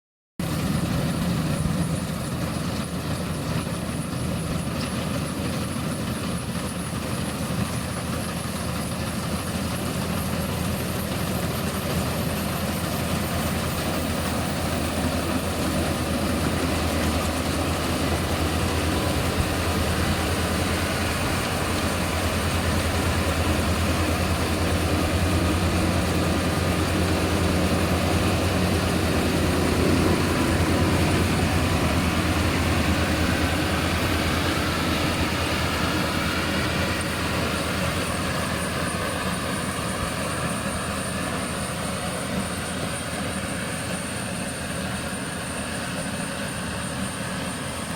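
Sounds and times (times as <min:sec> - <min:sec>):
combine harvester engine drone: 0:00.4 - 0:47.9.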